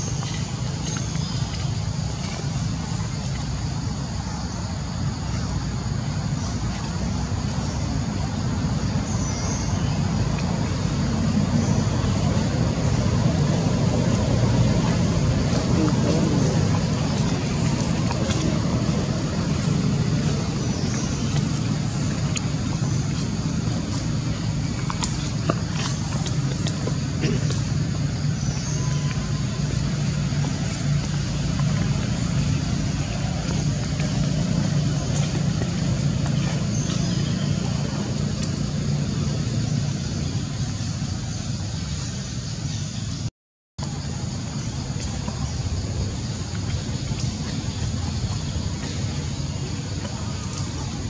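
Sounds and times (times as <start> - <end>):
low rumbling: 0.0 - 51.0.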